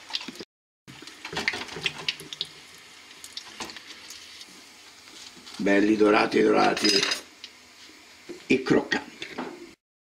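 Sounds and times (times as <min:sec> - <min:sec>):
oil frying with crackles: 0:00.0 - 0:09.8.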